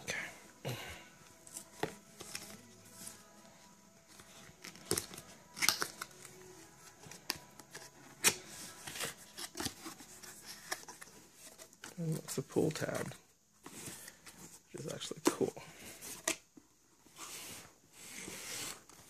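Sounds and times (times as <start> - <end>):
cardboard packaging rustling: 1.4 - 19.0.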